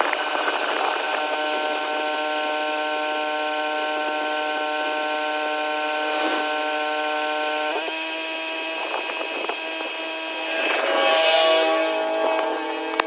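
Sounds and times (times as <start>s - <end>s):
pressure washer whine: 0.0s - 13.0s.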